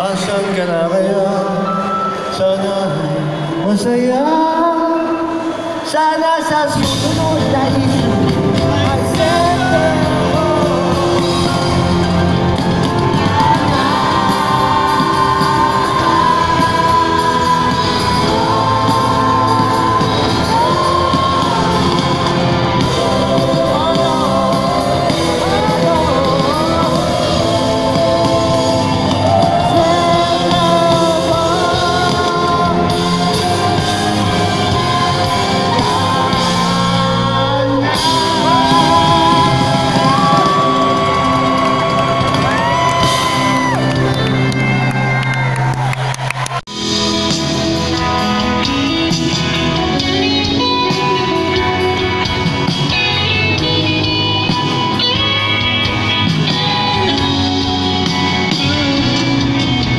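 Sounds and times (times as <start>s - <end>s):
man singing lead: 0.0s - 44.8s, 47.3s - 59.9s
electric guitars: 0.0s - 59.9s
drums: 4.3s - 59.9s
bass guitar: 6.7s - 59.9s.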